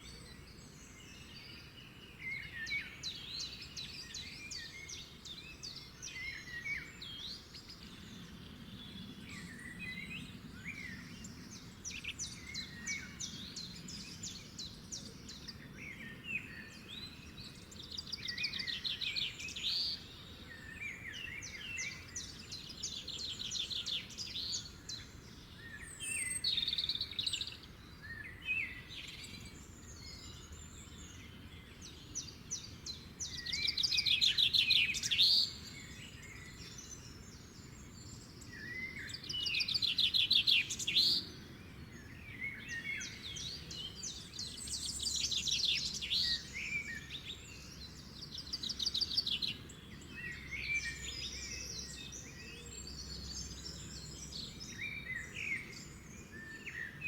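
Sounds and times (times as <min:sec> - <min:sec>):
songbirds singing trilled phrases: 0:00.0 - 0:57.0.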